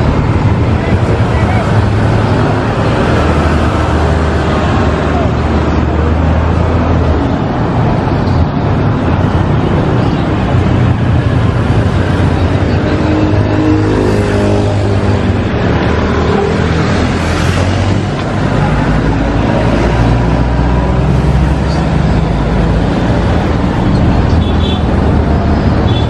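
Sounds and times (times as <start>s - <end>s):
vehicle engines passing: 0.0s - 26.0s.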